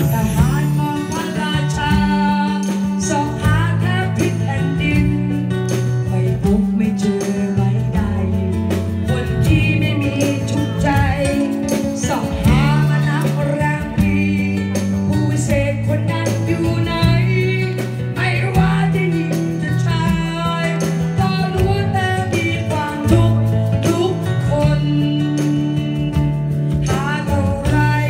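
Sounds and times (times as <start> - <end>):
acoustic guitar: 0.0 - 28.0
bass line: 0.0 - 28.0
drums: 0.0 - 28.0
person singing: 0.0 - 28.0.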